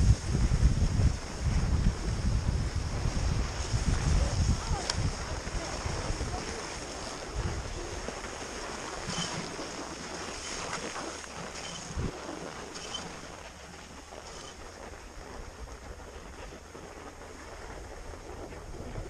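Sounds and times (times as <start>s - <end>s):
skis sliding on snow: 0.0s - 19.0s
wind buffeting microphone: 0.0s - 19.0s
ski edges scraping: 3.1s - 18.6s.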